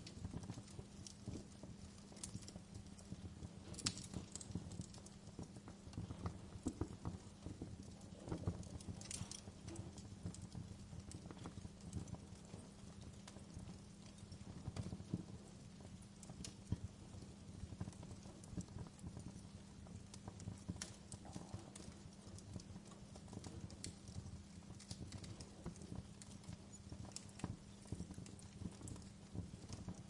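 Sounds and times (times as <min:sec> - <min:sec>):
low steady background noise: 0:00.0 - 0:30.0
wood fire crackling: 0:00.0 - 0:30.0.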